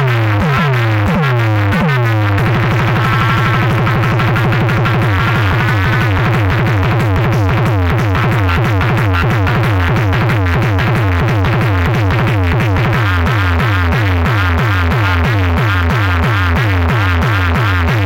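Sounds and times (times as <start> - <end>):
electronic dance music: 0.0 - 18.0.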